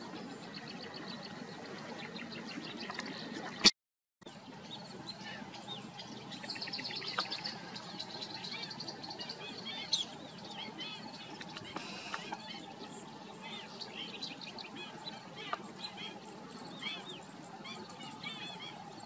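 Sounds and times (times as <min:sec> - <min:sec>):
low background noise: 0:00.0 - 0:03.6, 0:04.3 - 0:19.0
wild birds chirping: 0:00.0 - 0:03.7, 0:04.3 - 0:19.0.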